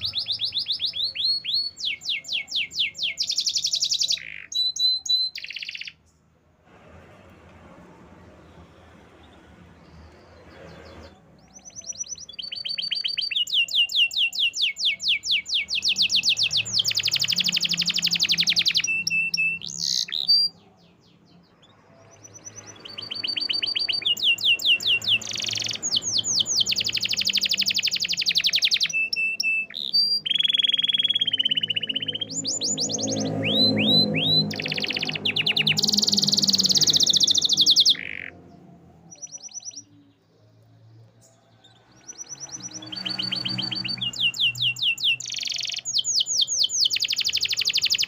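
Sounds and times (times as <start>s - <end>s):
canary singing chirps and trills: 0.0s - 6.4s, 8.2s - 48.0s.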